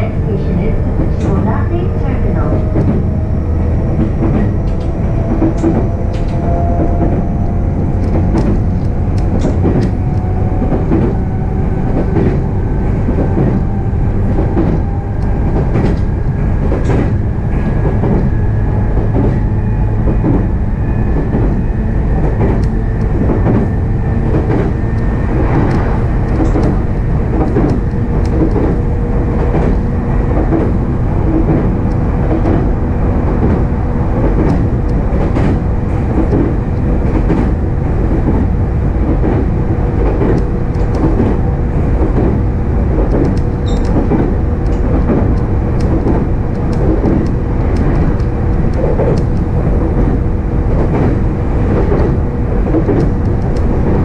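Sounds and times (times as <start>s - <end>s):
rail joint clicks and knocks: 0.0s - 54.0s
train wheels rumbling on rail: 0.0s - 54.0s.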